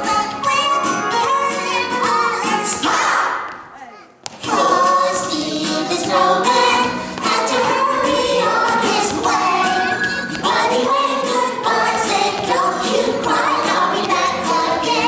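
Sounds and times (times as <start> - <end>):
backing music: 0.0 - 3.2, 4.4 - 15.0
voices singing in chorus: 1.2 - 3.5, 4.4 - 15.0.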